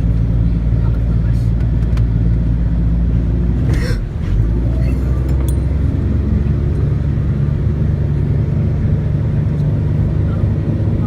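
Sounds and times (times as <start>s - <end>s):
engine running low drone: 0.0s - 11.0s.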